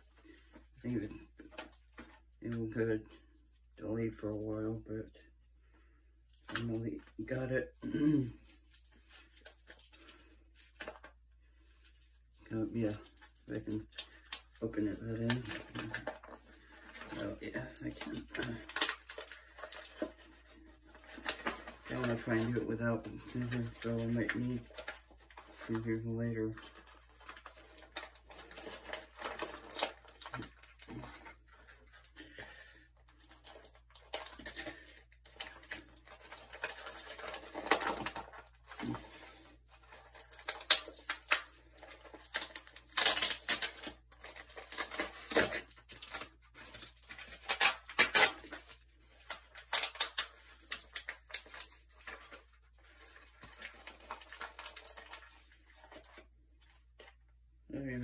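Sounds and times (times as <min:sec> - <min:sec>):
packaging tearing and crinkling: 0:08.7 - 0:11.1, 0:12.7 - 0:57.2.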